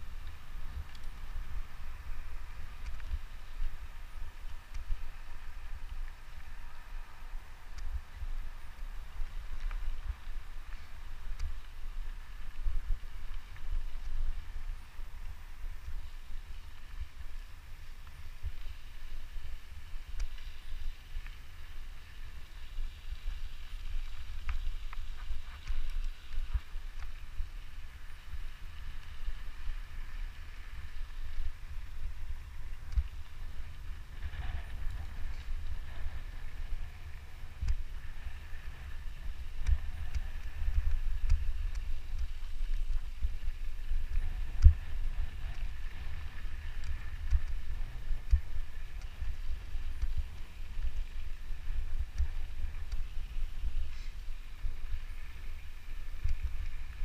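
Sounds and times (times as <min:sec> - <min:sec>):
tyres rolling on dirt trail: 0:00.0 - 0:57.0.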